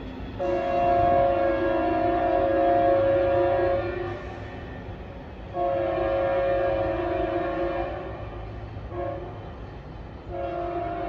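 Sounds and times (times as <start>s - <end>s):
locomotive air horn blasts: 0.4s - 4.7s, 5.5s - 9.4s, 10.3s - 11.0s.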